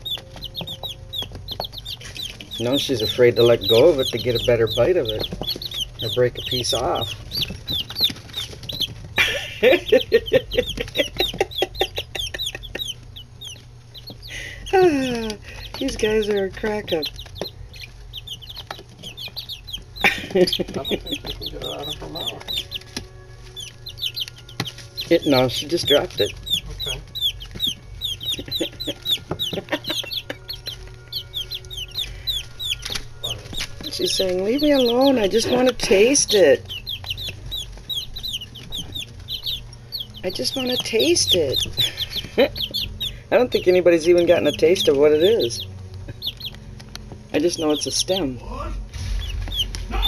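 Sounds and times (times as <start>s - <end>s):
chicks peeping: 0.0s - 50.0s.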